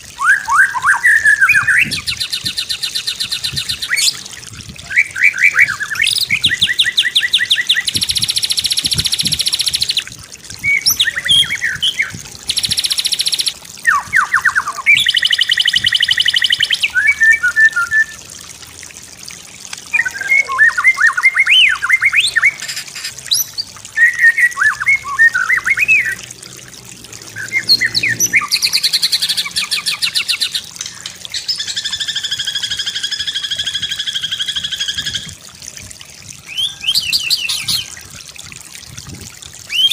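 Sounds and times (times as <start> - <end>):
songbird singing trills and whistles: 0.2 - 4.2, 4.8 - 18.3, 19.9 - 26.2, 27.4 - 35.4, 36.4 - 38.0, 39.7 - 39.9.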